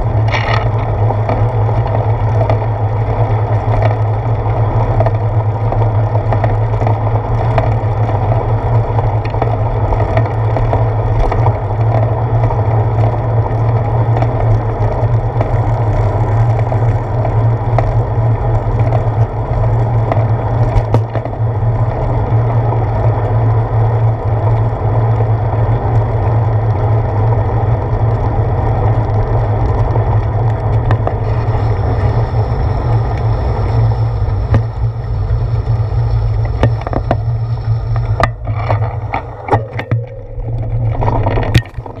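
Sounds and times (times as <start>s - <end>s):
bicycle clicks and rattles: 0.0s - 42.0s
bicycle tyre rumble: 0.0s - 42.0s
wind: 0.0s - 42.0s.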